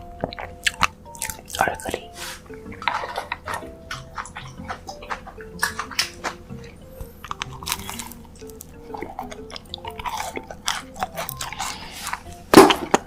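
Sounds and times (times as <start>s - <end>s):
crisp chewing crunches: 0.0s - 13.0s
soft background music: 0.0s - 13.0s.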